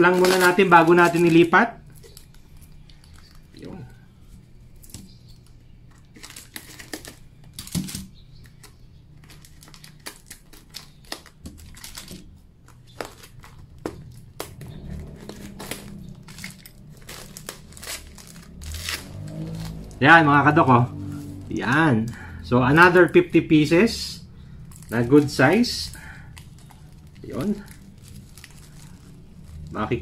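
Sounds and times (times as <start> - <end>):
paper tape crinkling and tearing: 0.0 - 3.7, 4.7 - 23.3, 24.6 - 30.0.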